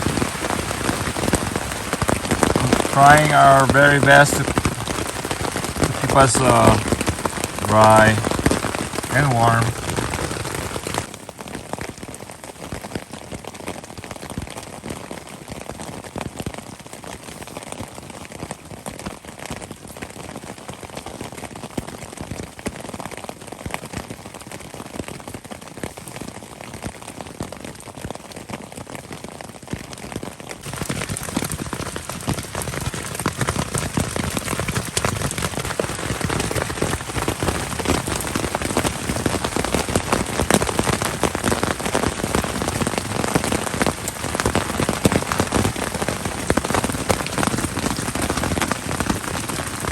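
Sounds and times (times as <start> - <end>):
heavy rain on tent fabric: 0.0 - 49.9.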